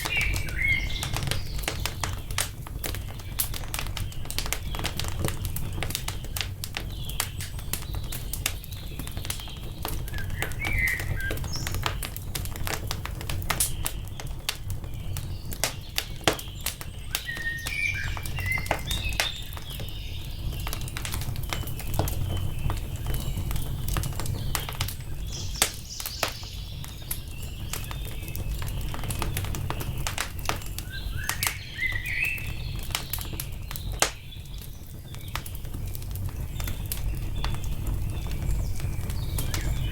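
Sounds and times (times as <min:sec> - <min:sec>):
songbirds chirping: 0:00.0 - 0:39.9
wood fire crackling and popping: 0:00.0 - 0:39.9.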